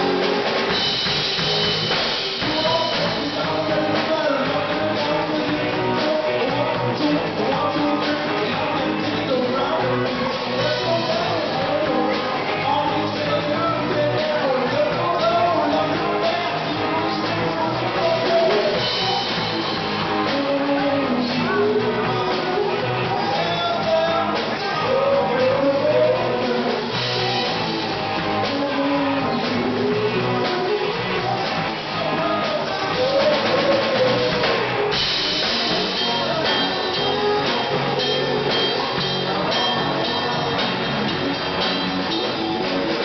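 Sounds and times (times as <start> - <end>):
drum kit: 0.0 - 43.0
electric guitars: 0.0 - 43.0.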